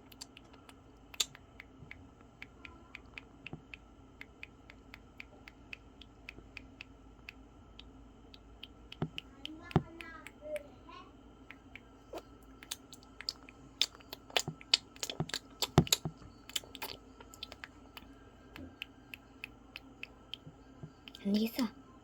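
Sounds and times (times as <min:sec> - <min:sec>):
hamster gnawing carrot: 0:00.0 - 0:21.6.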